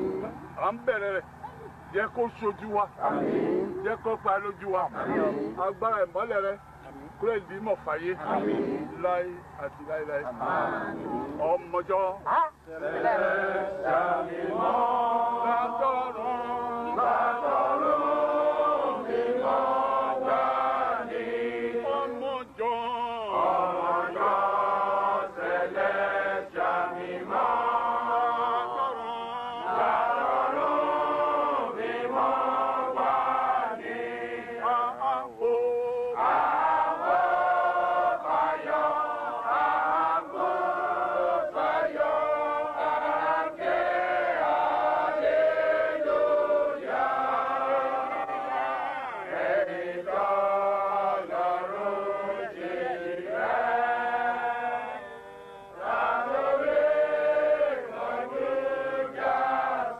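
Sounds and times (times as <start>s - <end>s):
men chanting a hymn in unison: 0.0s - 59.9s.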